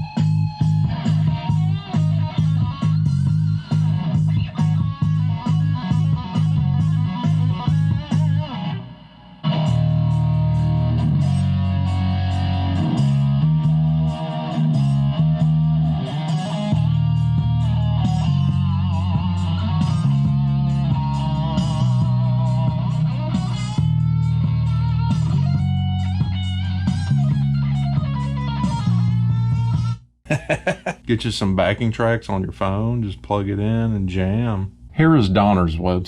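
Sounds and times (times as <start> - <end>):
guitar and bass music: 0.0 - 35.8.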